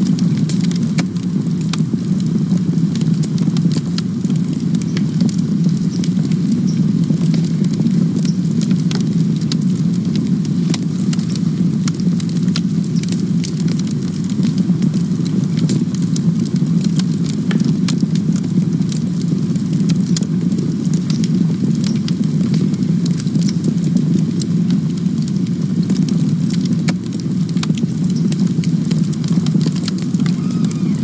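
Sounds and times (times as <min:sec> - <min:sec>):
campfire burning: 0:00.0 - 0:31.0
wood crackling and popping: 0:00.0 - 0:31.0.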